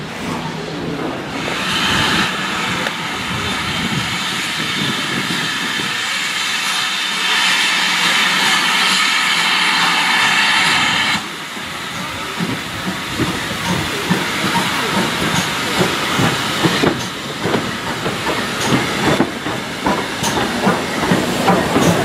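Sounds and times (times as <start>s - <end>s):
steam locomotive hissing steam: 0.1s - 22.0s.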